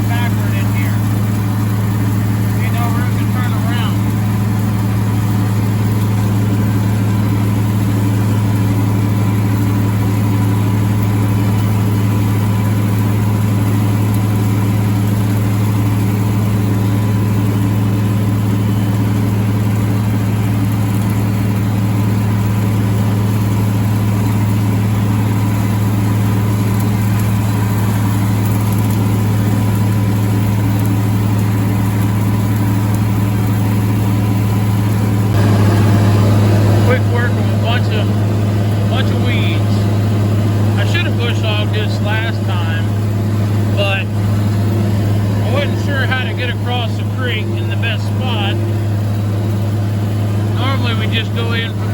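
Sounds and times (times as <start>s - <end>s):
rotary mower drone: 0.0s - 51.9s
tractor engine running: 0.0s - 51.9s.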